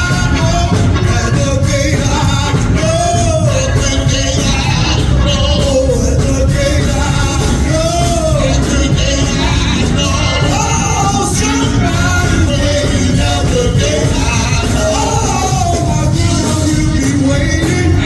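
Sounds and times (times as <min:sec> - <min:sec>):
gospel band with bass and drums: 0:00.0 - 0:18.0
voices singing: 0:00.0 - 0:18.0.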